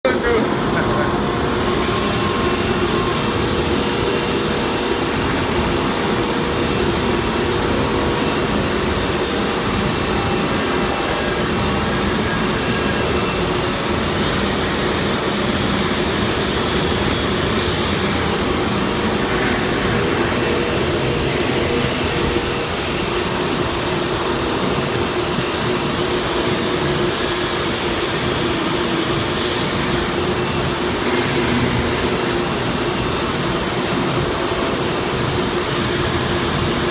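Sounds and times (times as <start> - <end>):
machine mechanical hum: 0.0 - 36.9.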